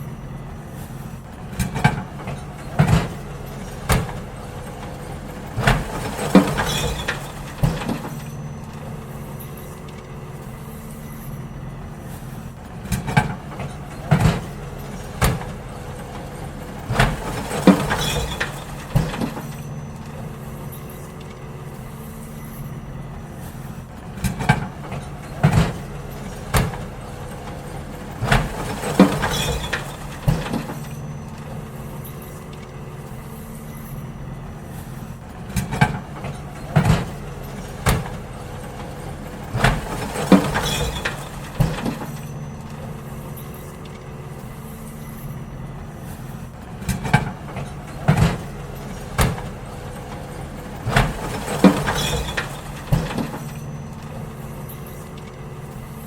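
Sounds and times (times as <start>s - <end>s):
bins banging and clanking: 0.0s - 56.0s
garbage truck engine running: 0.0s - 56.0s.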